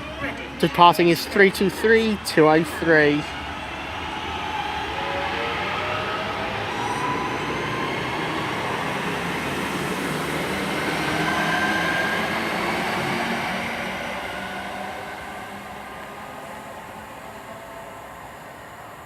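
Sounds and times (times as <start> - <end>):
electric train motors whining: 0.0 - 19.0.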